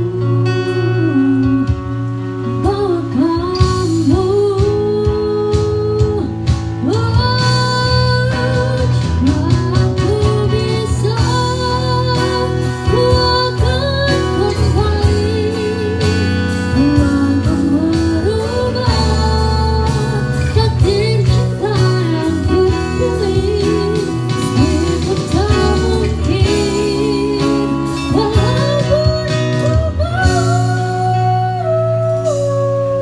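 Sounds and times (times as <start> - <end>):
acoustic guitars: 0.0 - 33.0
low bass line: 0.0 - 33.0
woman singing a ballad: 0.0 - 33.0.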